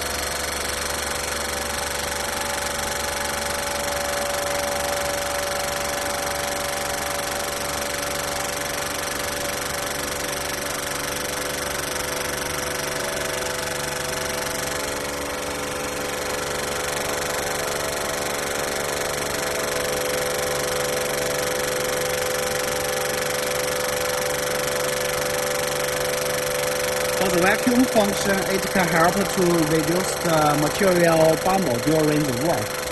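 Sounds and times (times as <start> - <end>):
vacuum pump humming: 0.0 - 32.9.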